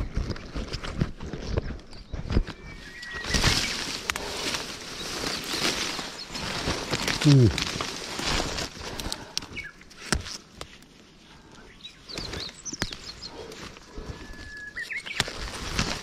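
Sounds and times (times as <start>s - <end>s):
rustling through undergrowth: 0.0s - 16.0s
twigs snapping: 0.1s - 16.0s
small birds chirping: 1.2s - 16.0s.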